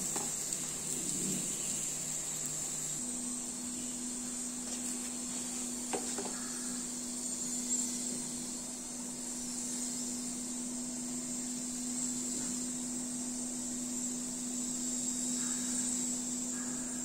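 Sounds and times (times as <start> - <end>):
oil sizzling in a pan: 0.0 - 16.8.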